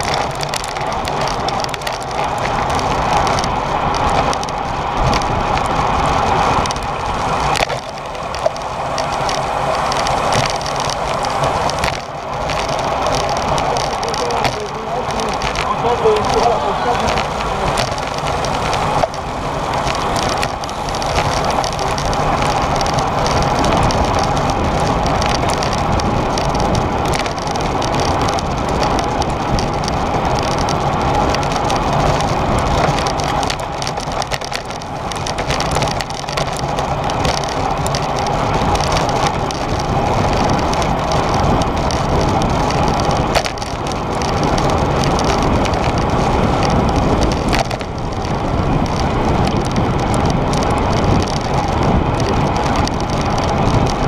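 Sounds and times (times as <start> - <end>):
bike tyre noise on asphalt: 0.0 - 54.0
wind rushing over microphone: 0.0 - 54.0.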